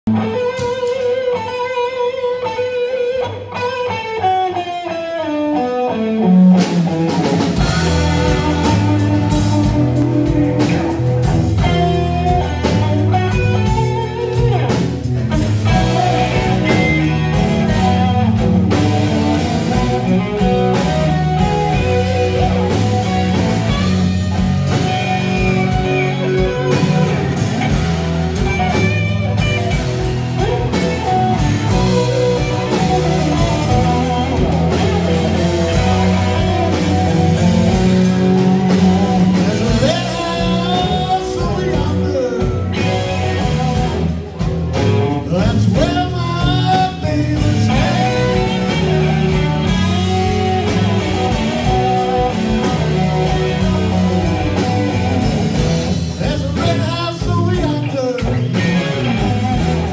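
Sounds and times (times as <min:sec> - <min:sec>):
blues band playing: 0:00.0 - 0:59.9
electric guitar run: 0:00.1 - 0:59.9.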